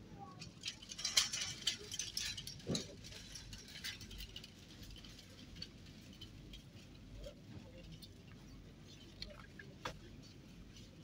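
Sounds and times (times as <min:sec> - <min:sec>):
low steady hum: 0:00.0 - 0:11.0
light clicks and rattles: 0:00.2 - 0:11.0.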